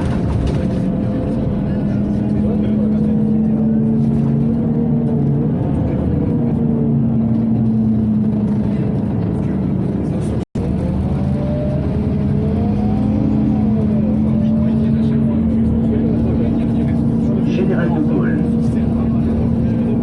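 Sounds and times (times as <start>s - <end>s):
bus engine and ventilation hum: 0.0s - 20.0s.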